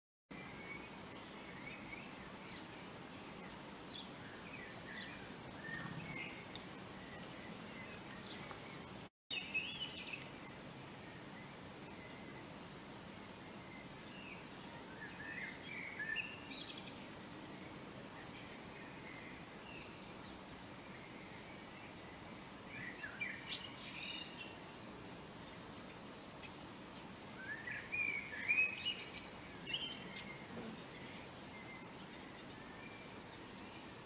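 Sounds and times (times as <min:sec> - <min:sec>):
faint background noise: 0:00.3 - 0:34.0.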